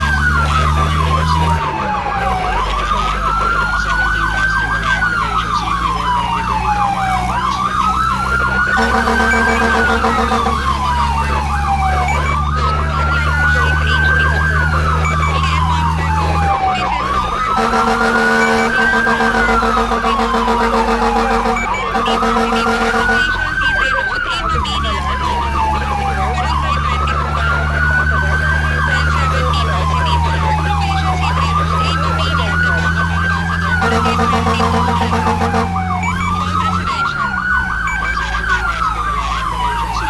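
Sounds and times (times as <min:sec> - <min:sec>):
engine drone: 0:00.0 - 0:40.0
steady low siren tone: 0:00.0 - 0:40.0
wailing siren: 0:00.0 - 0:40.0
warbling siren: 0:00.0 - 0:40.0.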